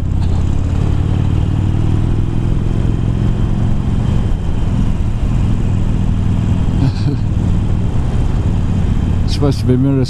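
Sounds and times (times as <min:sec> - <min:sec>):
motorcycle engine running: 0:00.0 - 0:10.0
road noise: 0:00.0 - 0:10.0.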